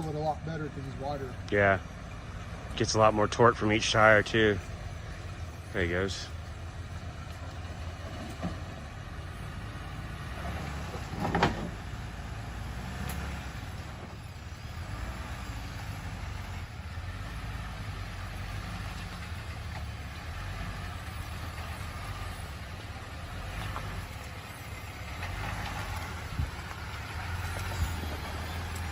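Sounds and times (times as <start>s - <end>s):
vehicle engine rumbling: 0.0s - 28.9s.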